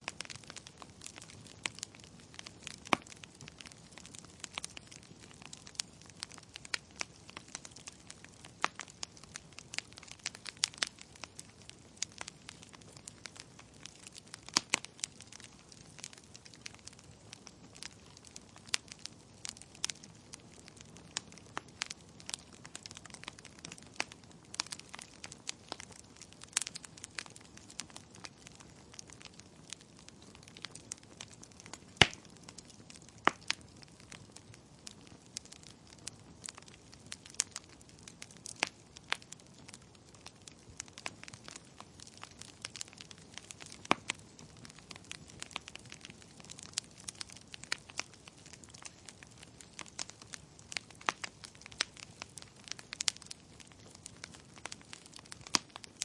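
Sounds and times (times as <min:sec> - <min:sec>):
soft steady hiss: 0:00.0 - 0:56.0
wood fire crackling: 0:00.0 - 0:56.0.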